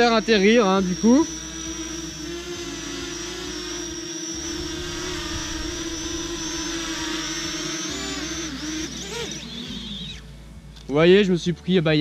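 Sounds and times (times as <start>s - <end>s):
drone propellers whining: 0.0s - 10.9s.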